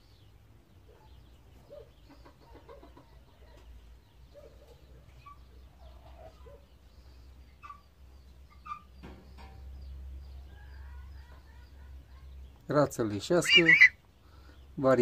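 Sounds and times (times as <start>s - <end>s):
faint bird calls: 0.9s - 12.6s, 13.3s - 14.8s.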